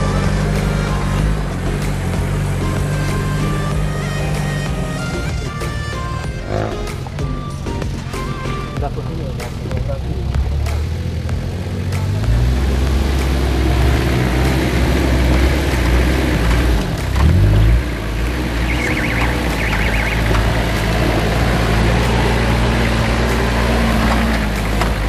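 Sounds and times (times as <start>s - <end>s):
suv engine revving: 0.0s - 25.0s.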